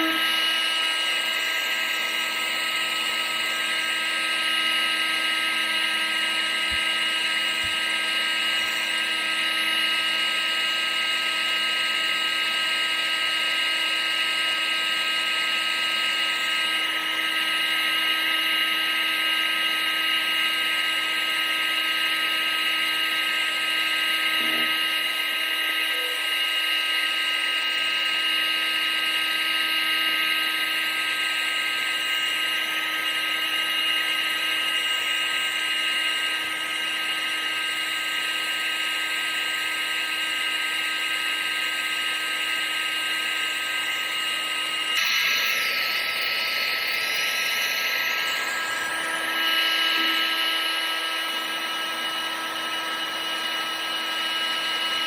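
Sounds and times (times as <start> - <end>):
vacuum cleaner motor running: 0.0 - 55.0.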